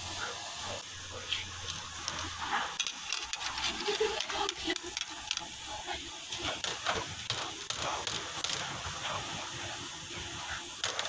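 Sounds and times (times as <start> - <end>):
water splashing and dripping: 0.0 - 11.0.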